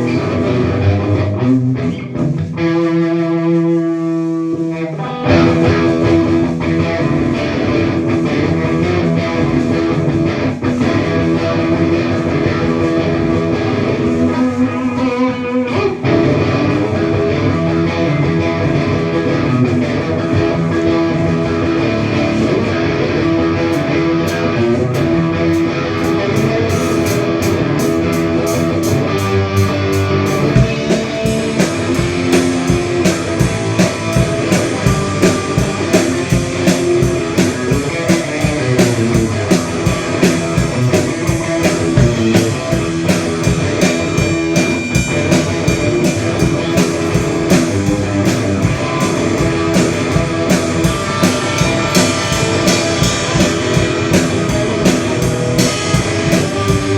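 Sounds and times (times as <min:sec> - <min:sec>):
electric guitar: 0:00.0 - 0:56.9
drum kit beat: 0:04.4 - 0:14.9, 0:18.2 - 0:56.9.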